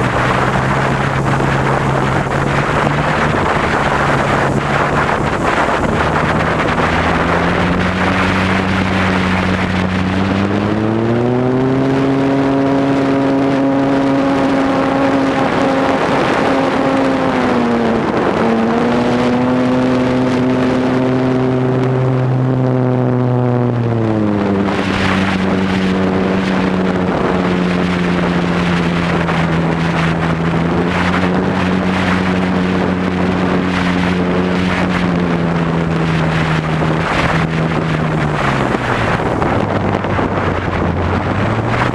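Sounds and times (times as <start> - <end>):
airplane engine and propeller: 0.0 - 41.9
rushing wind: 0.0 - 41.9.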